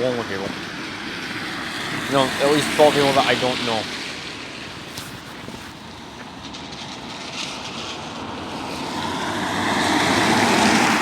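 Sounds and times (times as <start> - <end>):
road traffic hiss: 0.0 - 11.0.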